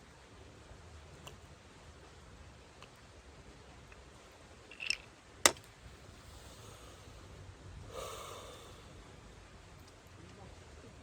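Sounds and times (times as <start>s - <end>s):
soft hiss: 0.0s - 11.0s.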